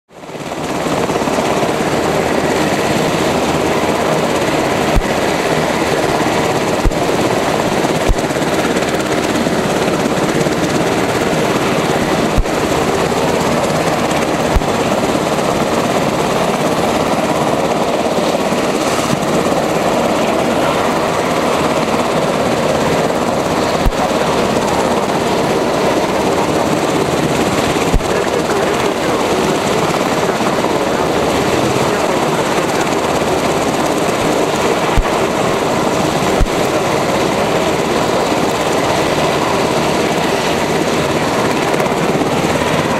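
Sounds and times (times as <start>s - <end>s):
helicopter turbine whine: 0.1s - 42.9s
helicopter rotor turning: 0.2s - 42.9s.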